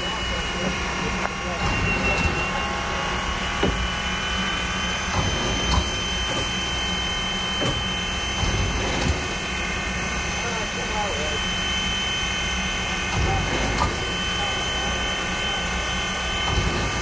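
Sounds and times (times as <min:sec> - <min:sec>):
high whining tones: 0:00.0 - 0:17.0
steam locomotive hum and hiss: 0:00.0 - 0:17.0.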